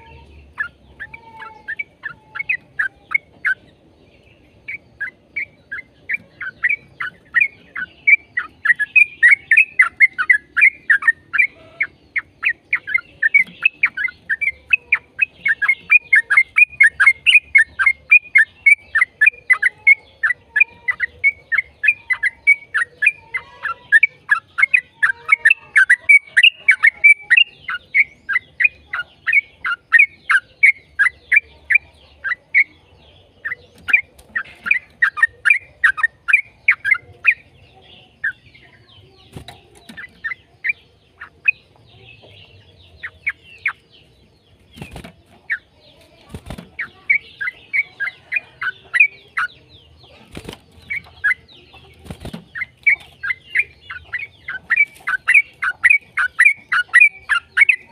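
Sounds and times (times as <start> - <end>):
bulbul singing chattering song: 0.0 - 57.9.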